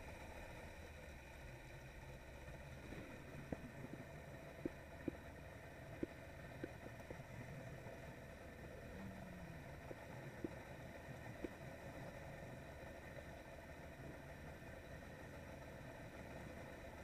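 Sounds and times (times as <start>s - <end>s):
watercraft engine humming: 0.7s - 17.0s.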